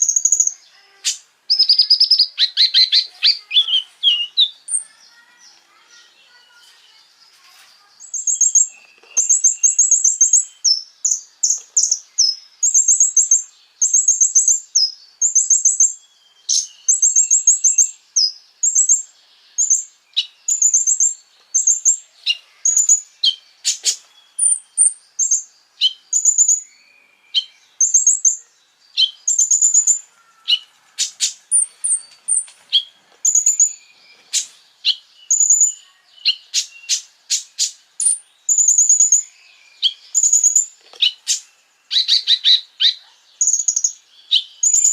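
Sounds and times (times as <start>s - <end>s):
songbird ticking trills: 0.0s - 44.9s.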